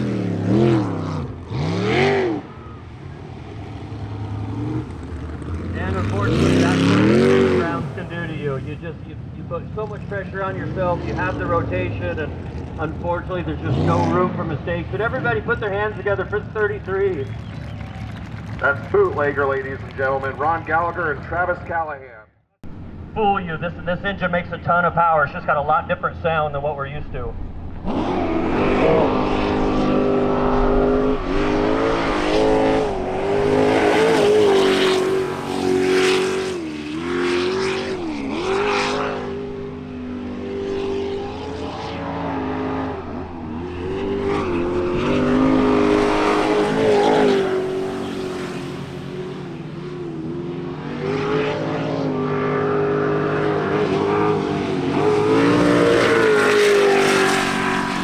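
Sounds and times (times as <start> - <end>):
racing boat engine revving: 0.0 - 9.1, 9.7 - 21.8, 27.8 - 58.0.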